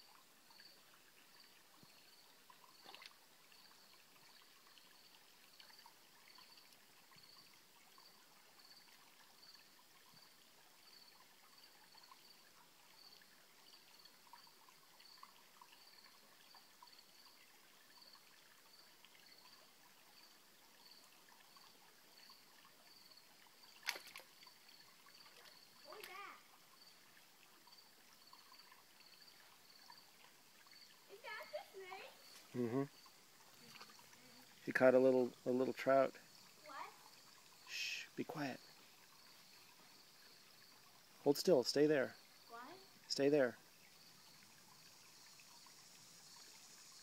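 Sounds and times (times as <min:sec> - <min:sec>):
faint stream trickle: 0:00.0 - 0:47.0.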